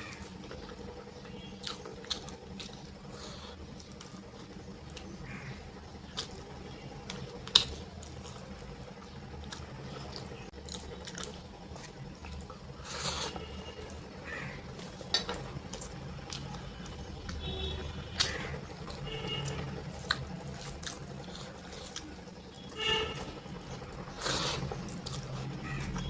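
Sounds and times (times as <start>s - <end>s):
wet eating sounds: 0.0s - 17.4s, 18.2s - 22.6s, 23.6s - 26.0s.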